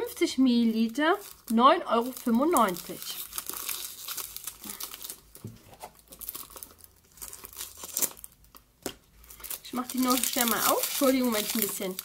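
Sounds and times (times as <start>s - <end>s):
packaging crinkling and tearing: 0.5s - 12.0s.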